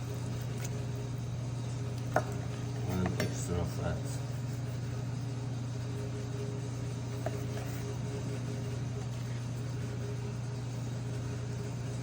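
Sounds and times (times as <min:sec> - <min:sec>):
low electrical motor hum: 0:00.0 - 0:12.0.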